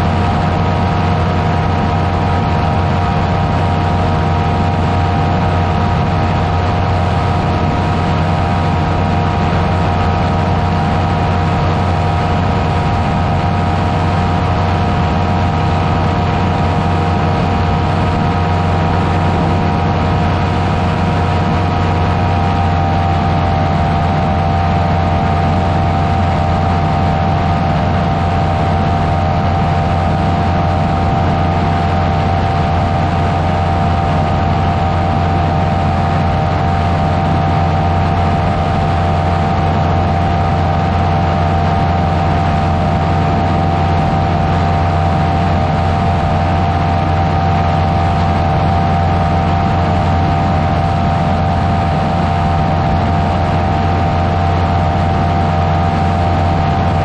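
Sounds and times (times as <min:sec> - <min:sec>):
engine and propeller drone: 0:00.0 - 0:57.0.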